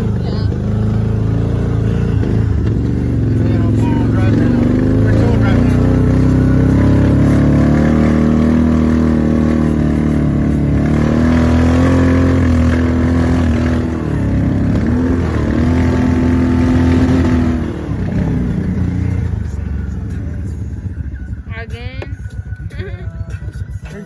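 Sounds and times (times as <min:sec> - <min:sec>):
off-road vehicle engine under load: 0:00.0 - 0:24.0.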